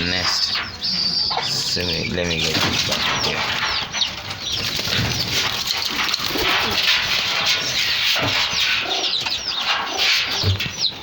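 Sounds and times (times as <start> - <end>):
farm birds chirping: 0.0 - 11.0.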